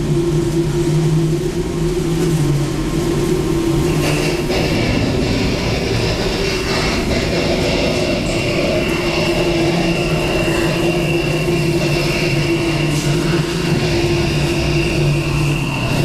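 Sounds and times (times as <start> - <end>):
constant hum: 0.0 - 16.0
storm wind rushing: 0.0 - 16.0.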